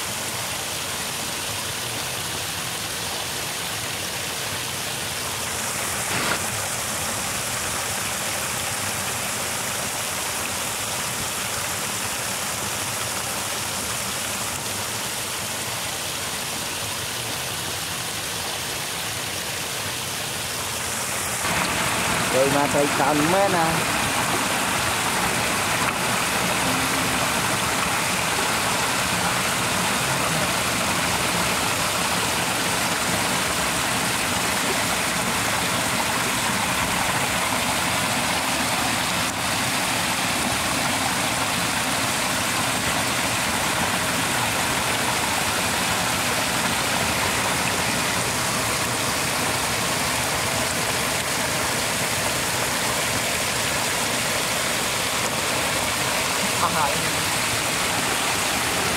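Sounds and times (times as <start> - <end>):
water rushing through channel: 0.0 - 58.9.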